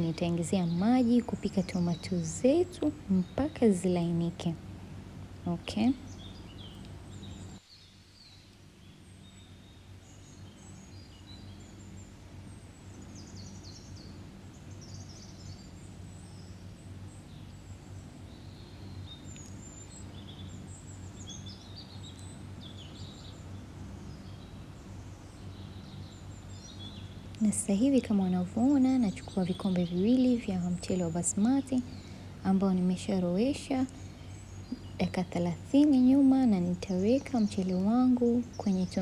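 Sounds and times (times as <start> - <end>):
small birds chirping: 0.0 - 39.0
steady low hum: 0.0 - 39.0.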